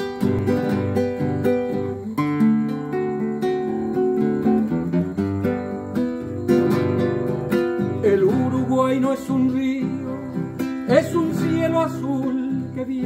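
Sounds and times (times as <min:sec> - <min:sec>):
classical guitar strumming chords: 0:00.0 - 0:13.0.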